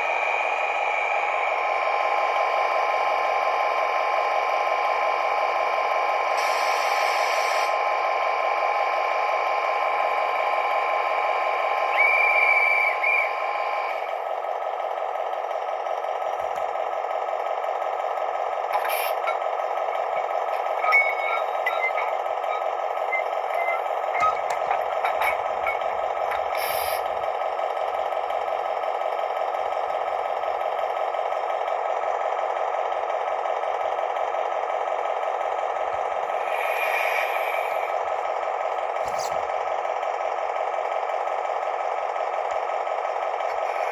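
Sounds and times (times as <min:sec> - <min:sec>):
diesel engine through small speaker: 0:00.0 - 0:43.9.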